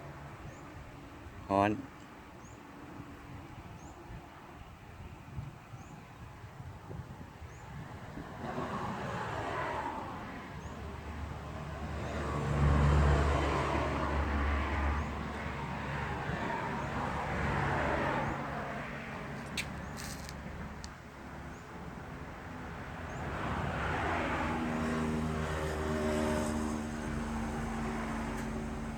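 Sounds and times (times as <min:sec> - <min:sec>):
vehicles passing: 0:00.0 - 0:28.9.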